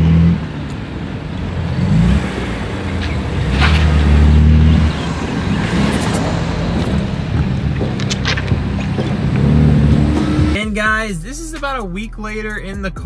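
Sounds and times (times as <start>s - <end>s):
car engines at low revs: 0.0s - 10.9s.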